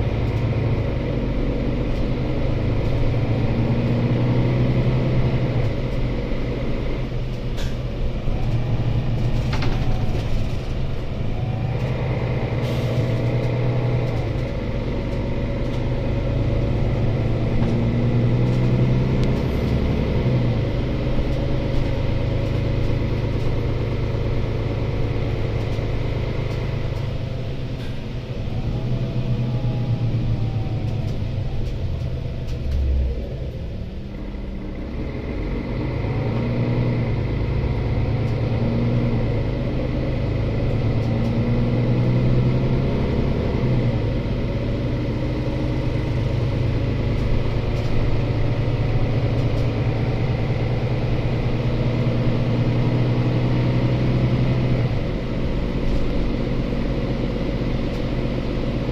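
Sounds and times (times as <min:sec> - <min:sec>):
bus diesel engine drone: 0:00.0 - 0:58.9
road rumble: 0:00.0 - 0:58.9.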